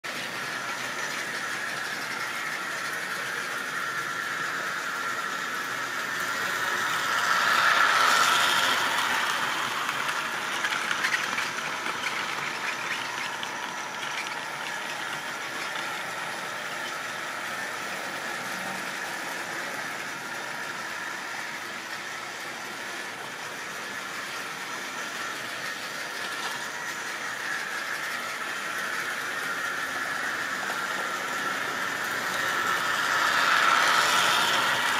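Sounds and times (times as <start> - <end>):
model train motors whirring: 0.0 - 34.9
wheels rattling over track: 0.1 - 34.9.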